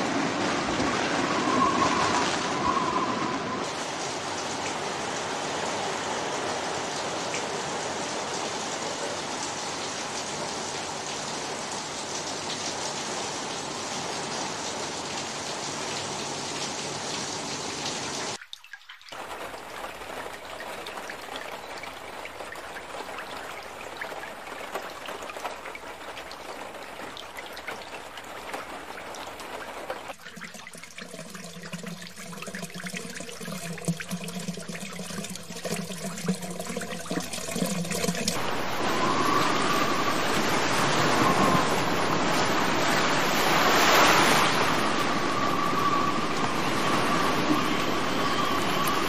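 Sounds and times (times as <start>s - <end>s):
rushing floodwater: 0.0s - 49.0s.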